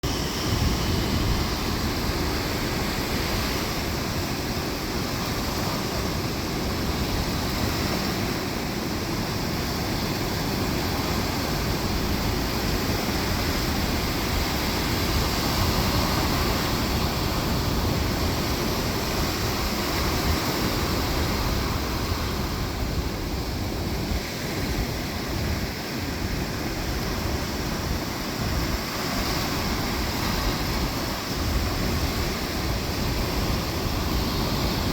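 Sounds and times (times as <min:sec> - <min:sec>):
low rumble of wind: 0:00.0 - 0:34.9
surf waves breaking on beach: 0:00.0 - 0:34.9.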